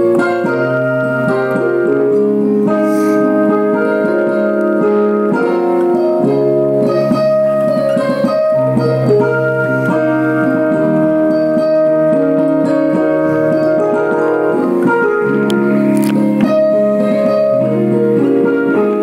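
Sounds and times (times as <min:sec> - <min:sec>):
digital keyboard chords and melody: 0:00.0 - 0:19.0.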